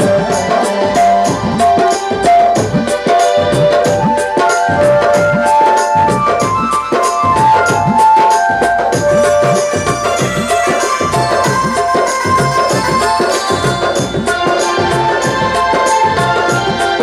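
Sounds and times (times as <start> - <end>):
held melody line: 0.0 - 17.0.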